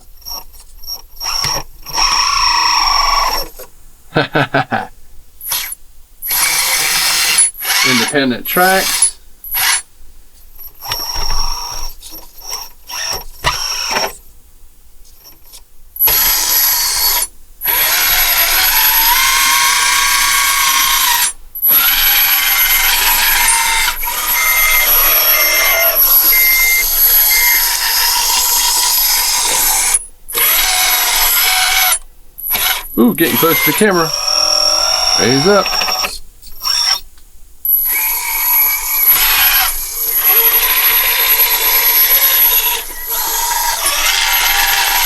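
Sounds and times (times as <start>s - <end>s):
toy drive motors bursts: 1.2s - 3.5s, 5.4s - 9.8s, 10.8s - 14.2s, 16.0s - 37.0s, 37.7s - 45.0s
hydraulic pump whirring: 5.4s - 9.8s, 10.8s - 14.2s, 16.0s - 37.0s, 37.7s - 45.0s.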